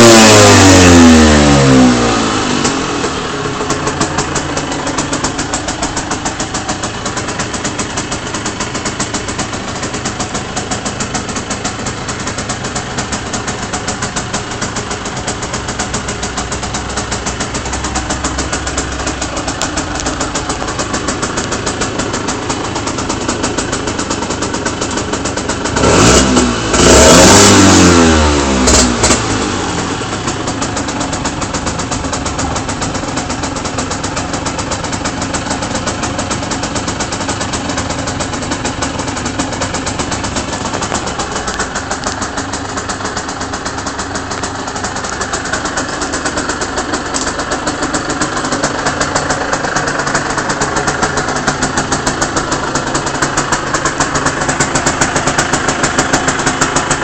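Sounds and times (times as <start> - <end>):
engine revving: 0.0 - 57.0
two-stroke motorcycle engine idling: 0.0 - 57.0.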